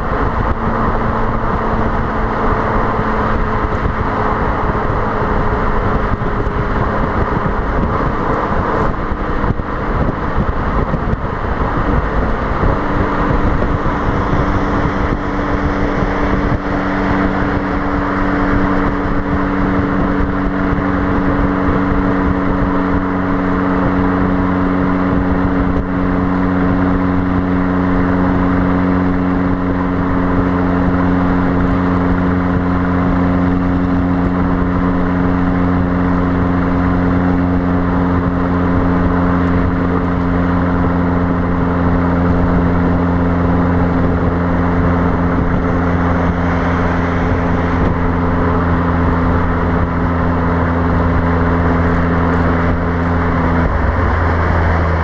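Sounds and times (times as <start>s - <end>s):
car exhaust droning: 0.0s - 55.0s
wind noise on microphone: 0.0s - 55.0s.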